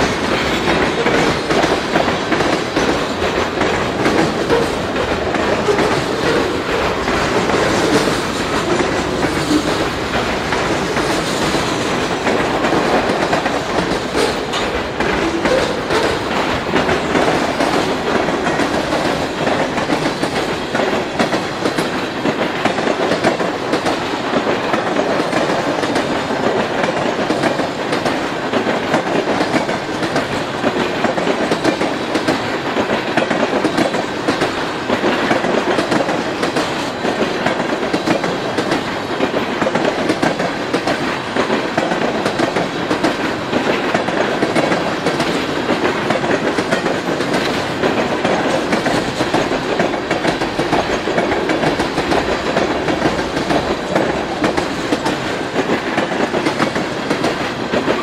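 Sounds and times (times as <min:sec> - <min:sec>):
train wheels clickety-clack: 0:00.0 - 0:58.0.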